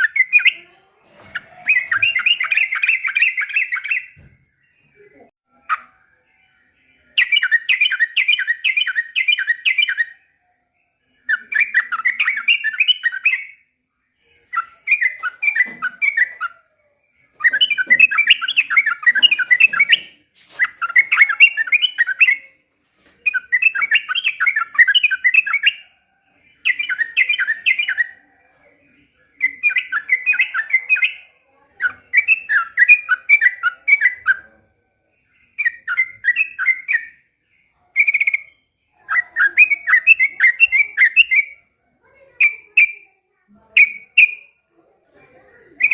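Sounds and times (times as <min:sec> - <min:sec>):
bulbul singing rapid phrases: 0:00.0 - 0:06.0, 0:07.0 - 0:10.2, 0:11.2 - 0:13.7, 0:14.4 - 0:16.5, 0:17.3 - 0:22.6, 0:23.2 - 0:25.8, 0:26.6 - 0:34.6, 0:35.5 - 0:37.2, 0:37.8 - 0:44.6, 0:45.6 - 0:45.9.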